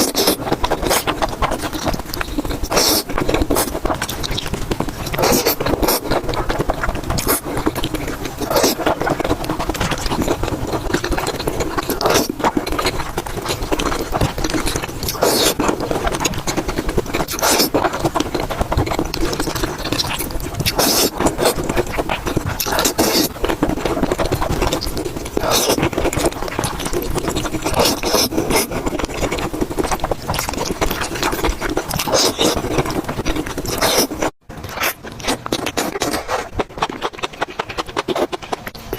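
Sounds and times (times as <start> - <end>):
sharp crunches: 0.0 - 38.9
wet chewing: 0.0 - 38.9.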